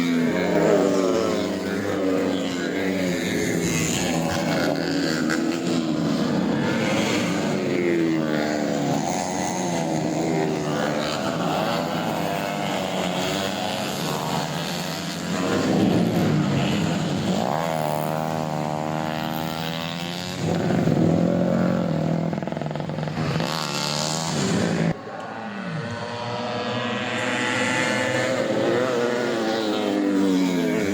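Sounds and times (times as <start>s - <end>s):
motorcycle engine revving hard: 0.0s - 30.9s.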